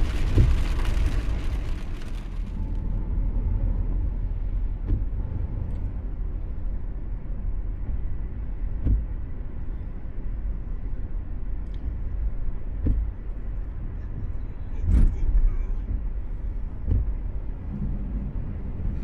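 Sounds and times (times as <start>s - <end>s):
vehicle rumbling on the move: 0.0s - 19.0s.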